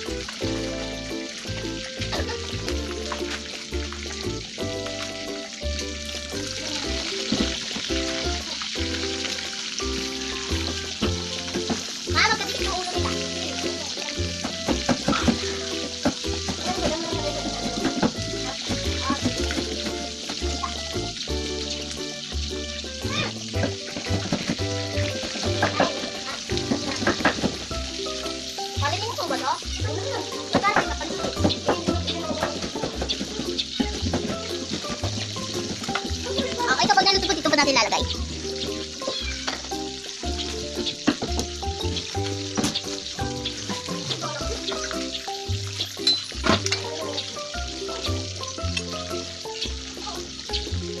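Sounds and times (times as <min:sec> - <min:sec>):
background music with bass line: 0:00.0 - 0:51.0
food sizzling in a pan: 0:00.0 - 0:51.0.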